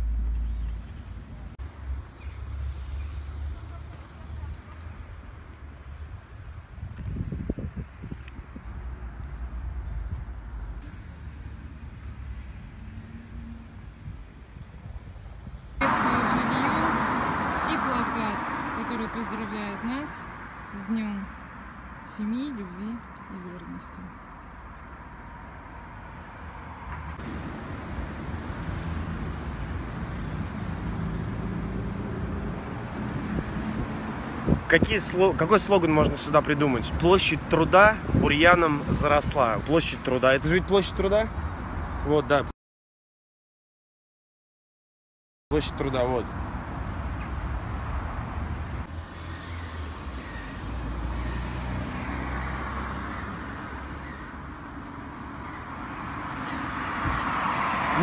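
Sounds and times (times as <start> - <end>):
low traffic rumble: 0.0 - 42.5, 45.5 - 58.0
passing vehicle: 7.0 - 14.9, 15.7 - 42.4, 45.6 - 58.0.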